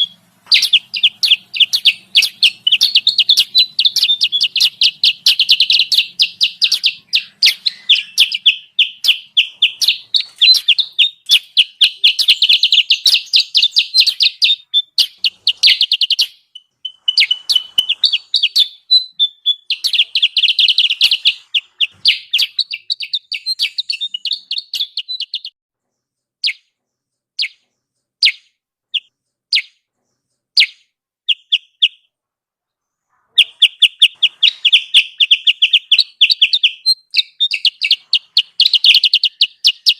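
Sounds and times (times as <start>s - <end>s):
bird sharp chirps: 0.0s - 32.2s, 32.8s - 39.9s.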